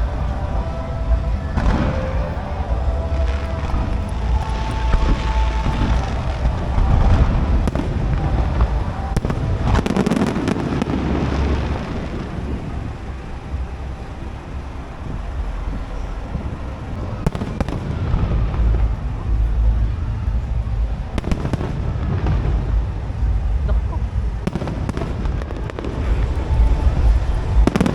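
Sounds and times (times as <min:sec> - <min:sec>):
fireworks booming: 0:00.0 - 0:27.9
fireworks crackling: 0:00.0 - 0:27.9.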